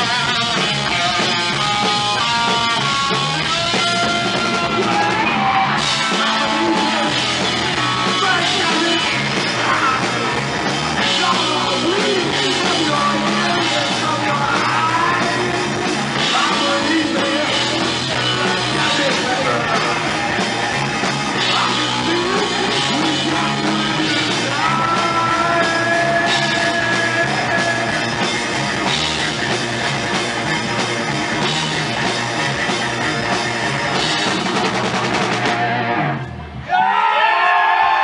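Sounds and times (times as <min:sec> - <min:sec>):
bass guitar: 0:00.0 - 0:38.0
drum kit: 0:00.0 - 0:38.0
electric guitar: 0:00.0 - 0:38.0.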